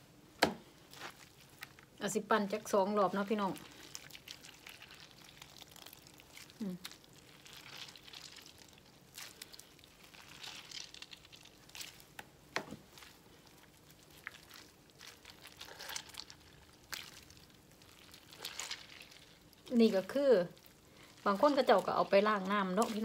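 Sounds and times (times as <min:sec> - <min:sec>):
hands squeezing wet greens: 0:00.4 - 0:23.0.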